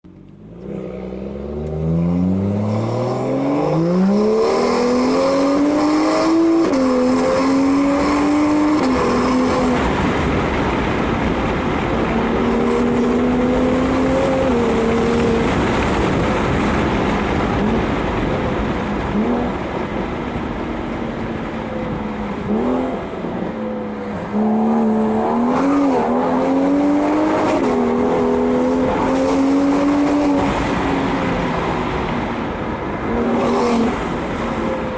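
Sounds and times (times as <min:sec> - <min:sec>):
loud car engine accelerating: 0:00.3 - 0:19.8, 0:21.5 - 0:34.8.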